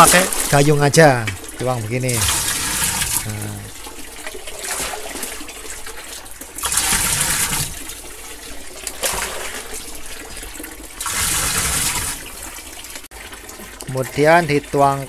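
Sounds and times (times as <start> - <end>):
water pouring into tub: 0.0 - 15.0.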